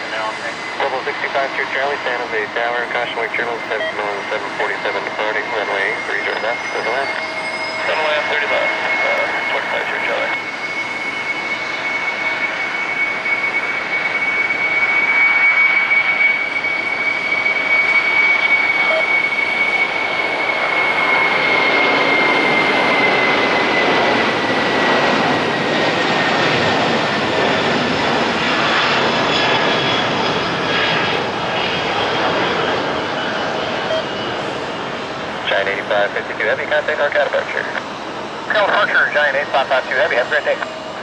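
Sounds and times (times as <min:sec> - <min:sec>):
jet engine roar with fan whine: 0:00.0 - 0:41.0.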